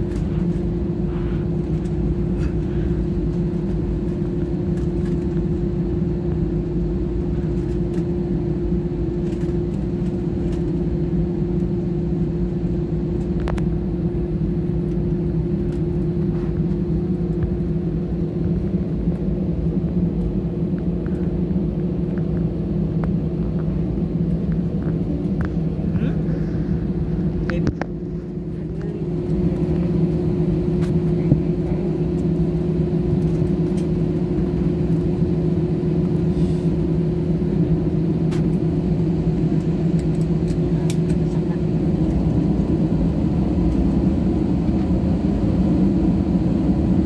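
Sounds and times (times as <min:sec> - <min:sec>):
jet engines droning in cabin: 0:00.0 - 0:47.0.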